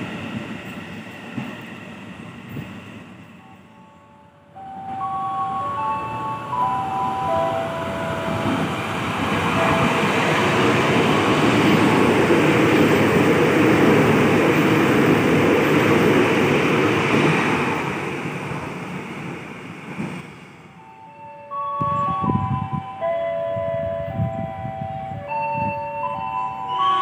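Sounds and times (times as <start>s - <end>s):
train passing through station: 0.0s - 27.0s.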